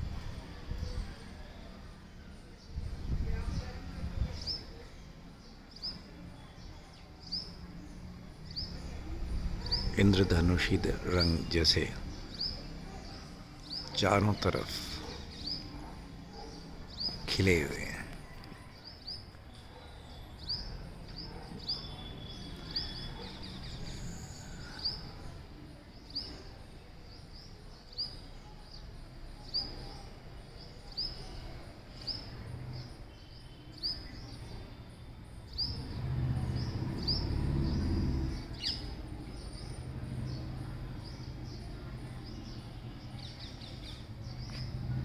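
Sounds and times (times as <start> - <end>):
bird chirping: 3.4 - 45.0.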